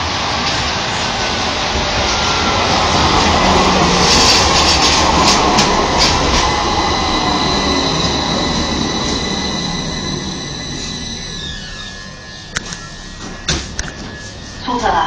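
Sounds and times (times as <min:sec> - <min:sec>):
high steady whine: 0:00.0 - 0:15.0
tram wheels rumbling on track: 0:00.0 - 0:15.0.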